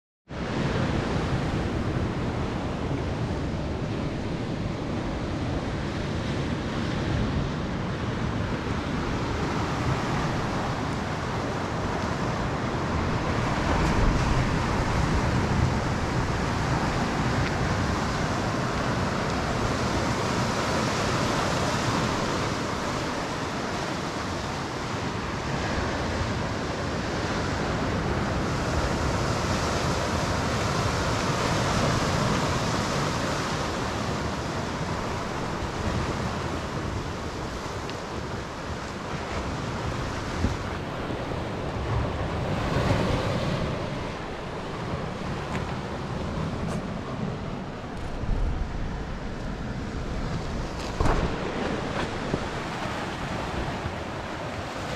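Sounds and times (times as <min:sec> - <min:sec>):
wind buffeting microphone: 0:00.3 - 0:54.9
surf washing onto rocks: 0:08.4 - 0:54.9.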